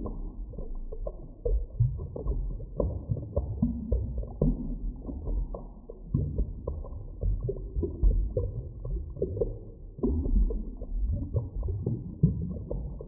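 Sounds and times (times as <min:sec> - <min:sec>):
bubbles gurgling and popping: 0:00.0 - 0:13.0
deep underwater rumble: 0:00.0 - 0:13.0.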